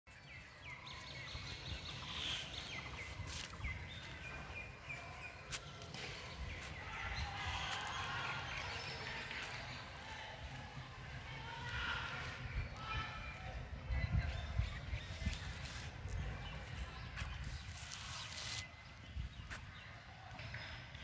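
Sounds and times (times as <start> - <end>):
birds chirping: 0.1 - 21.0.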